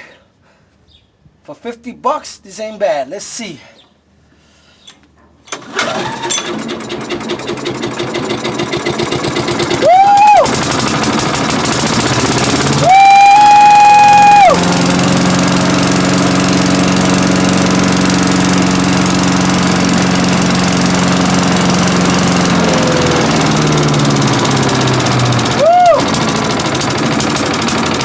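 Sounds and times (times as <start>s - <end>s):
small engine running: 5.5s - 28.0s.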